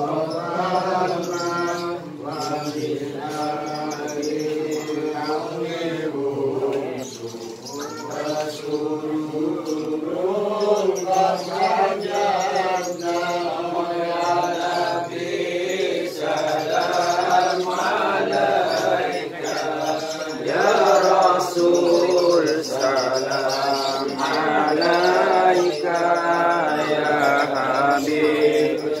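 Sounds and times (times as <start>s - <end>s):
men chanting in unison: 0.0s - 29.0s.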